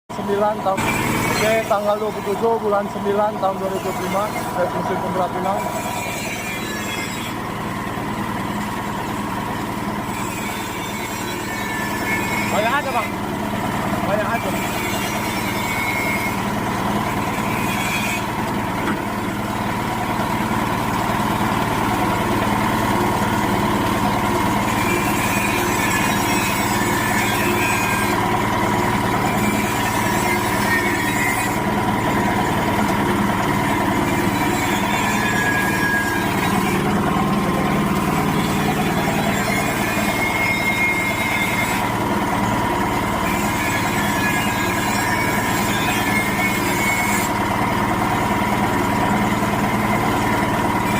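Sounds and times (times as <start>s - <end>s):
machine humming: 0.1s - 50.9s.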